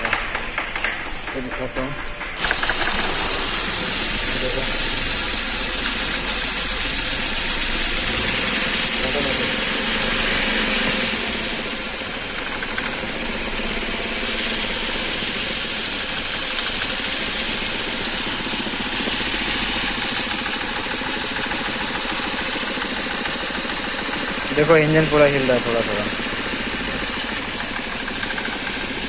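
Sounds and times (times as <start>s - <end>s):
car engine idling with misfire: 0.0s - 29.0s.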